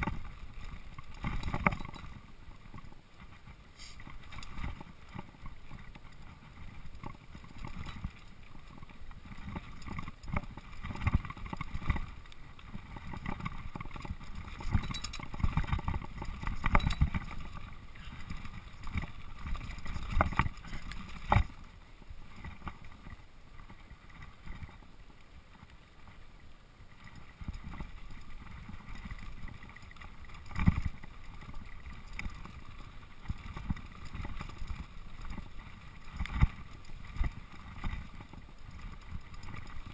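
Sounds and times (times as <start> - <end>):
bike tyres rumbling on rough trail: 0.0 - 39.9.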